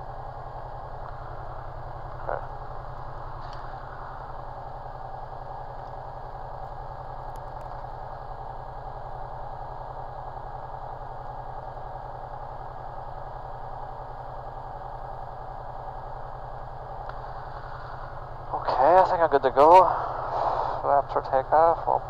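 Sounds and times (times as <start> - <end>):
light aircraft engine idling: 0.0 - 22.0.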